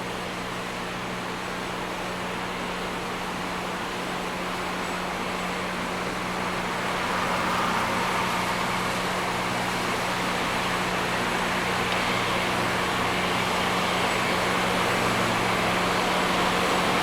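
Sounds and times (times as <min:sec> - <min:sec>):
engine hum: 0:00.0 - 0:17.0
rail grinder rushing noise: 0:03.2 - 0:17.0.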